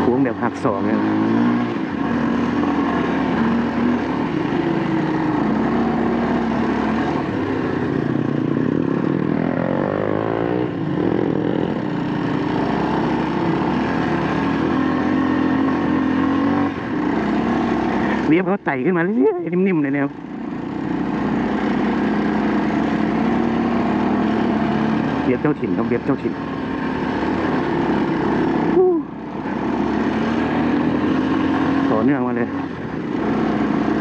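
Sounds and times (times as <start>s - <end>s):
motorcycle engine climbing: 0.0s - 34.0s.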